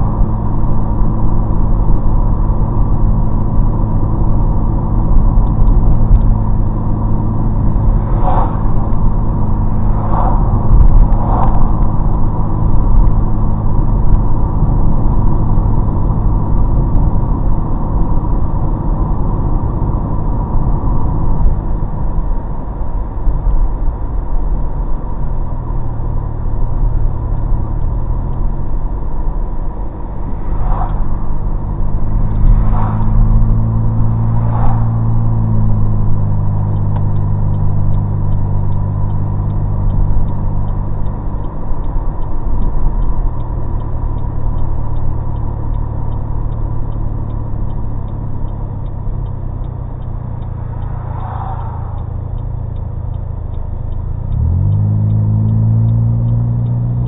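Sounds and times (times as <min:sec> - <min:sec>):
car engine and exhaust droning: 0:00.0 - 0:57.0
road noise: 0:00.0 - 0:57.0.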